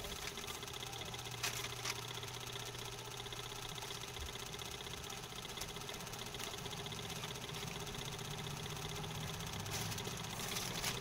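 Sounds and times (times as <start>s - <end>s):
small motor pulsing hum: 0.0s - 11.0s.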